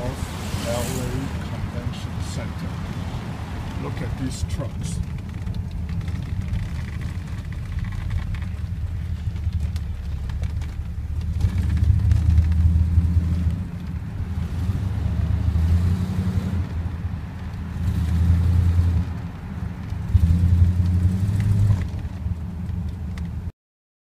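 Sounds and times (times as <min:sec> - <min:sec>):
car engine and road rumble: 0:00.0 - 0:23.5.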